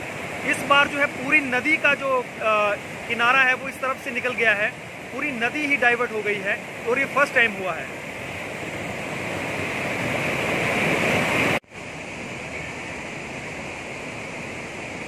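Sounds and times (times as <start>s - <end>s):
river floodwater roaring: 0.0s - 15.0s.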